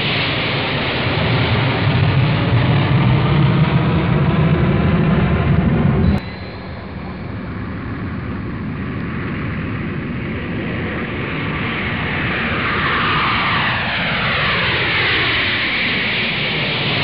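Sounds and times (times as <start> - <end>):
jet airliner flying past: 0.0 - 17.0.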